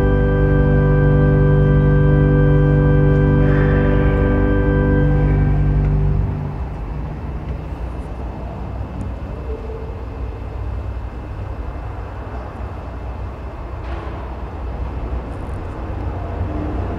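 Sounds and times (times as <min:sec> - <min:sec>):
room noise rumble and hiss: 0:00.0 - 0:16.9.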